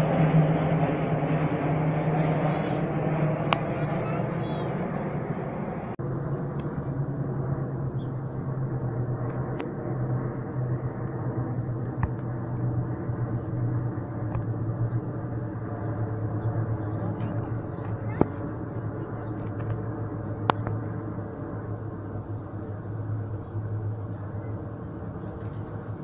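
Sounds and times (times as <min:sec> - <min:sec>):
aircraft engines droning overhead: 0:00.0 - 0:26.0.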